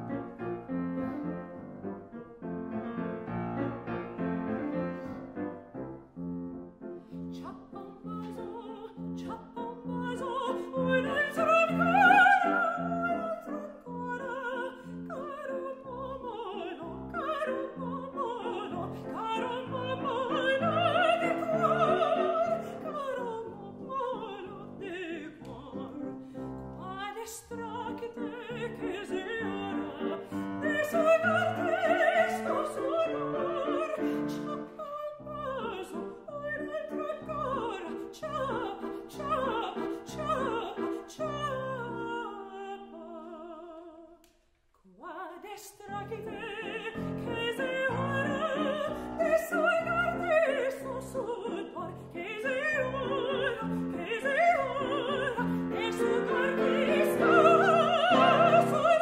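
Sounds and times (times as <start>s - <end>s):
grand piano: 0.0s - 44.2s, 45.1s - 59.0s
woman singing opera: 7.1s - 44.2s, 44.8s - 59.0s.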